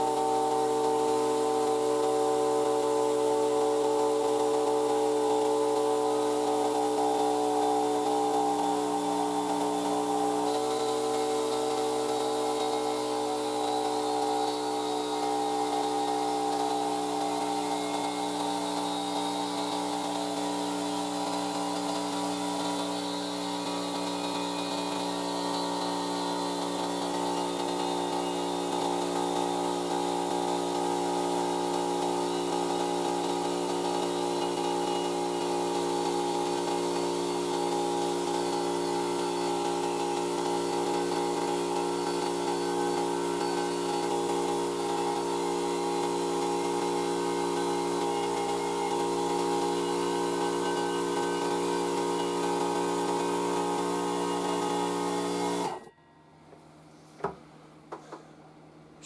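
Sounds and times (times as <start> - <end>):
air compressor humming: 0.0 - 59.0.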